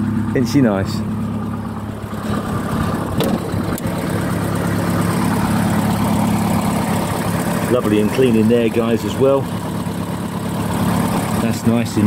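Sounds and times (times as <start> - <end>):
minibus engine idling: 0.0 - 12.0.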